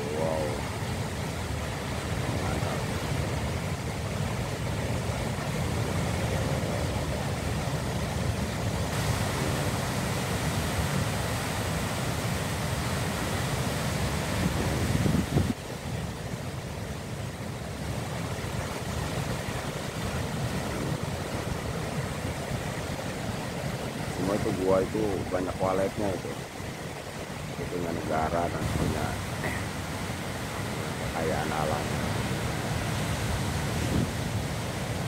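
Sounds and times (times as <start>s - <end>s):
surf breaking on rocky shore: 0.0s - 35.0s
wind rumbling on microphone: 0.0s - 35.0s.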